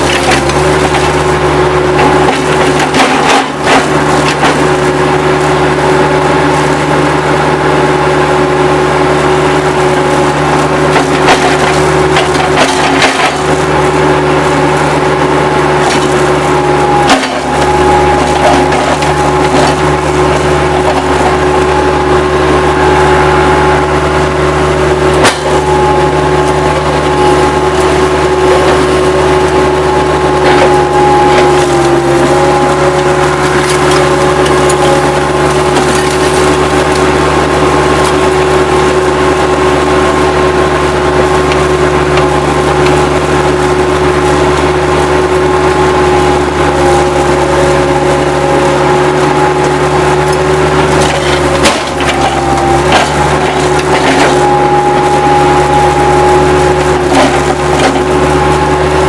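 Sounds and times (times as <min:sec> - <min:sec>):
loader engine at high throttle: 0:00.0 - 0:59.0.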